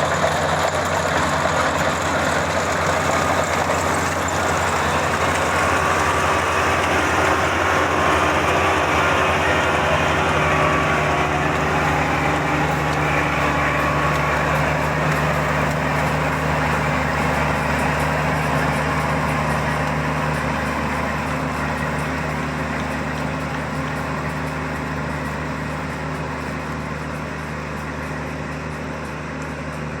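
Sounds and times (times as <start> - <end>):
combine harvester diesel engine: 0.0 - 30.0.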